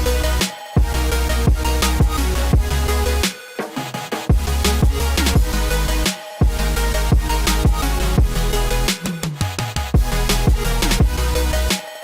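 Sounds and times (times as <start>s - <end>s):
music with heavy bass: 0.0s - 12.0s
steady drum beat: 0.4s - 11.2s.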